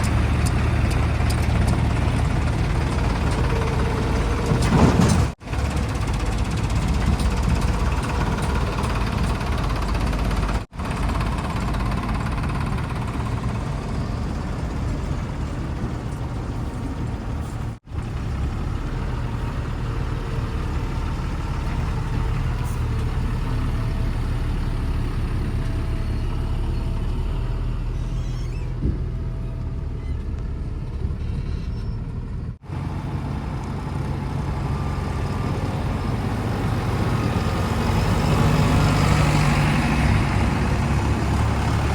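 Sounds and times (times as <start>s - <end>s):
diesel engine rumbling: 0.0s - 41.9s.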